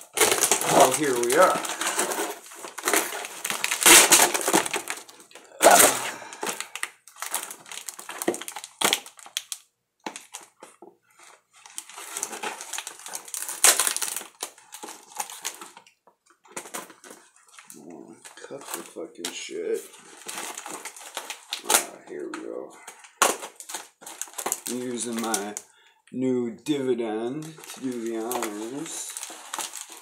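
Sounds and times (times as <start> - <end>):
cardboard and tape crinkling: 0.0 - 25.7, 27.1 - 30.0.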